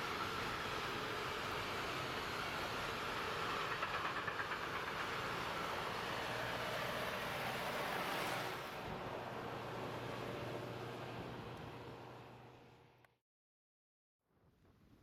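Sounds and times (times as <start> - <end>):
train wheel and rail noise: 0.0 - 12.8.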